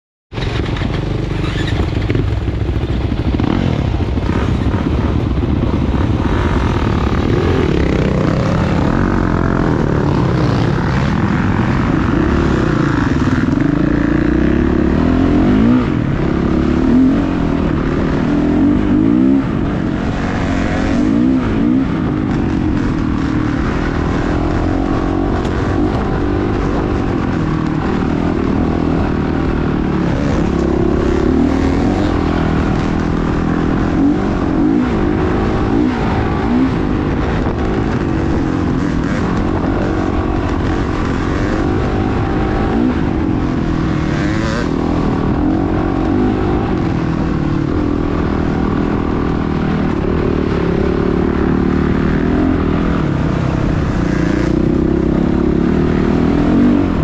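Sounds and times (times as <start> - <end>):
dirt bike engines revving: 0.4 - 57.0.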